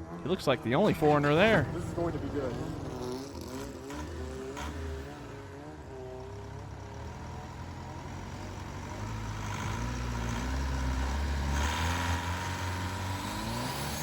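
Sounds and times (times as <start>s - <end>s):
boat engine drone: 0.0s - 14.0s.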